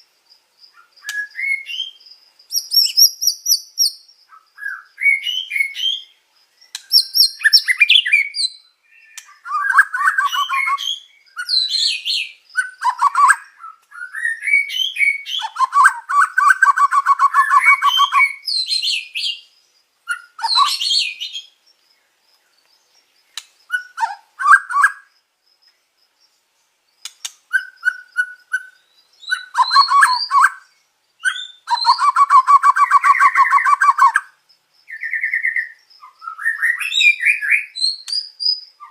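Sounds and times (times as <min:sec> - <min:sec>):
bird singing whistles and trills: 0:00.7 - 0:21.6, 0:23.3 - 0:25.1, 0:27.0 - 0:38.9.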